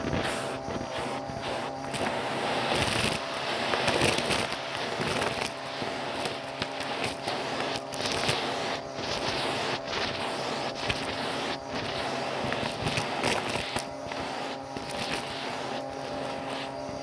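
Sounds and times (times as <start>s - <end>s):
grit crackling in vacuum nozzle: 0.0s - 17.0s
vacuum cleaner motor hum: 0.0s - 17.0s.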